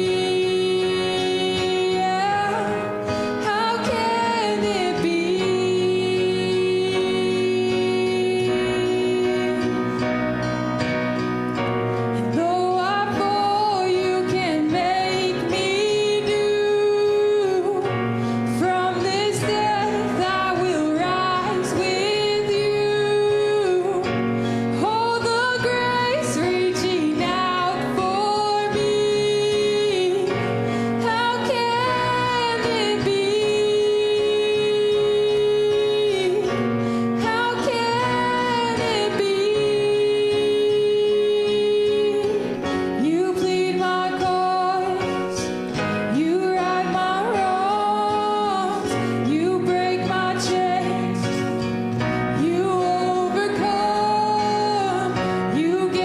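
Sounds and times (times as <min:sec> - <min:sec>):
woman singing gospel: 0:00.0 - 0:10.9, 0:12.2 - 0:56.0
instrumental accompaniment: 0:00.0 - 0:56.0.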